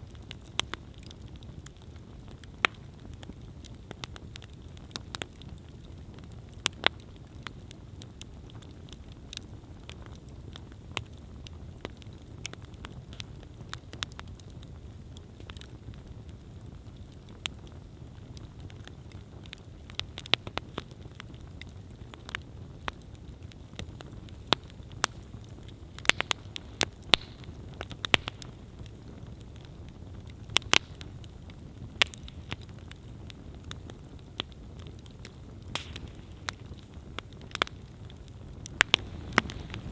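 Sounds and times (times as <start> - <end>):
campfire crackles and pops: 0.0 - 39.9
low rumble of flames: 0.0 - 39.9.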